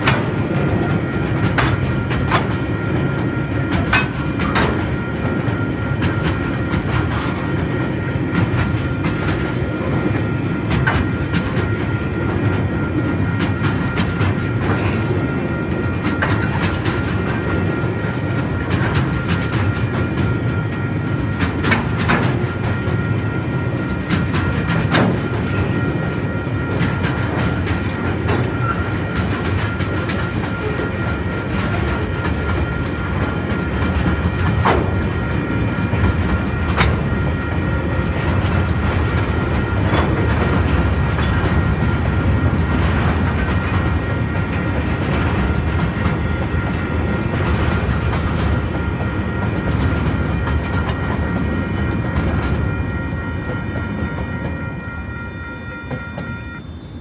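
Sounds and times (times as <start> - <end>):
wheels clacking over rail joints: 0.0 - 55.3
freight train wagons rolling past: 0.0 - 57.0.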